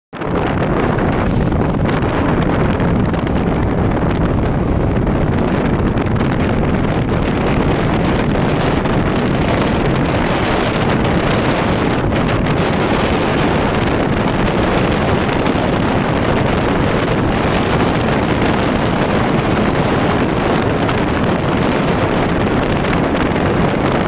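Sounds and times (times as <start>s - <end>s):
wind on microphone: 0.1s - 24.0s
boat engine running: 0.2s - 24.0s
water: 0.2s - 24.0s.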